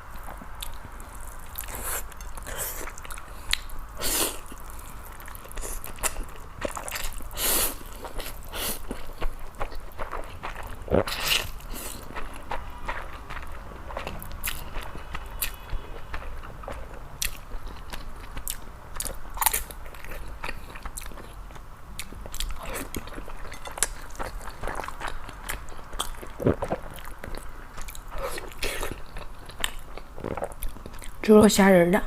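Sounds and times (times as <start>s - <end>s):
person chewing noodles: 0.1s - 31.2s.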